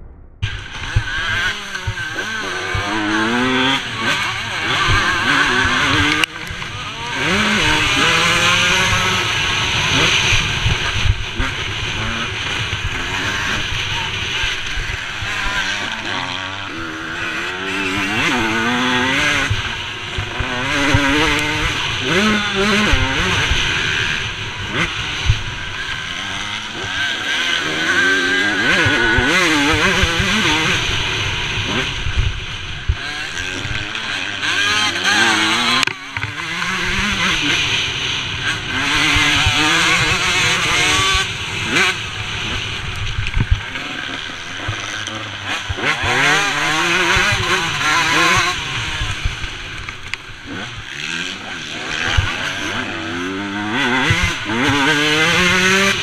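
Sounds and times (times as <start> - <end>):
rush of noise: 0.0 - 45.8
dirt bike engine revving: 0.0 - 56.0.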